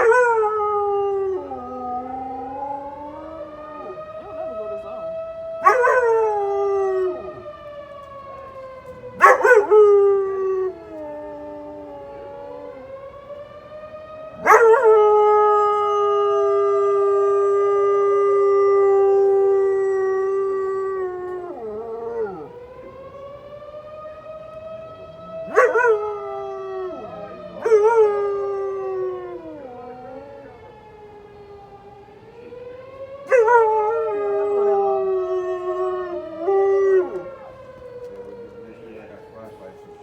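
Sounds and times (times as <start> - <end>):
dog howling: 0.0 - 7.6, 9.2 - 13.1, 14.3 - 23.3, 24.8 - 30.8, 33.2 - 39.6
tornado siren wailing: 0.0 - 40.0.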